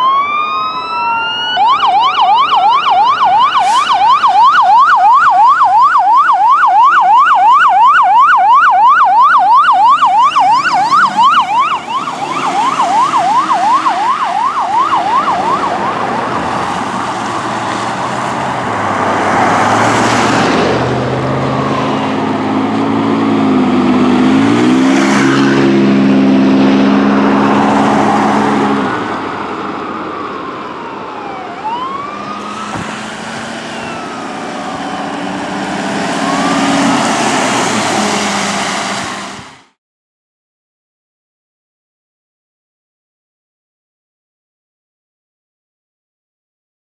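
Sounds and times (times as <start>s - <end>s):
faint wailing siren: 0.0s - 39.2s
fire engine driving past: 0.0s - 39.8s
fire engine siren yelp: 0.0s - 39.8s.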